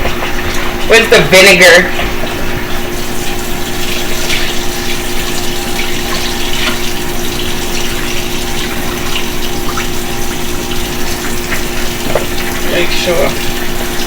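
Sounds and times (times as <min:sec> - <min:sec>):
faucet running into sink: 0:00.0 - 0:14.0.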